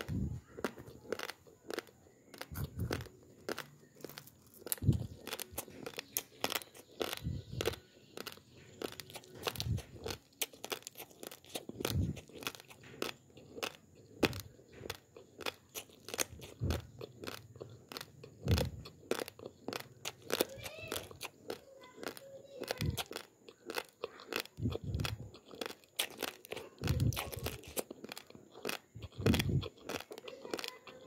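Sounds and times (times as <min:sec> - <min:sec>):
dry rice crunching: 0:00.0 - 0:31.0.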